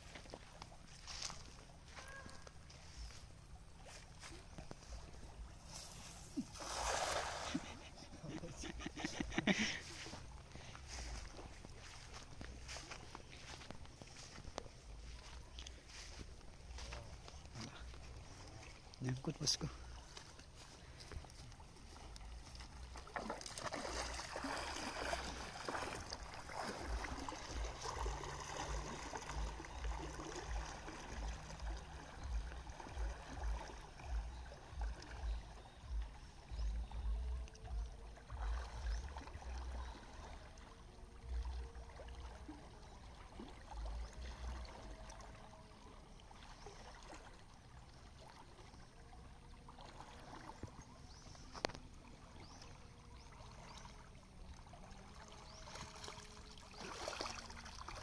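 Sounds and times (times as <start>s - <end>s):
river water sloshing: 0.0s - 58.0s.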